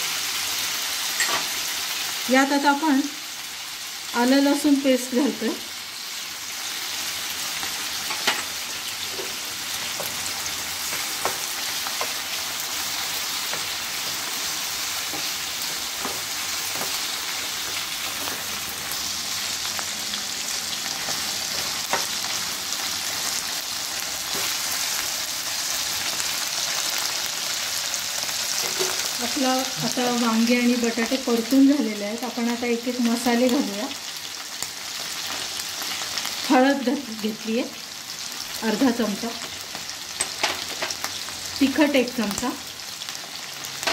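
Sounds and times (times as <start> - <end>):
vegetables sizzling in oil: 0.0 - 43.9.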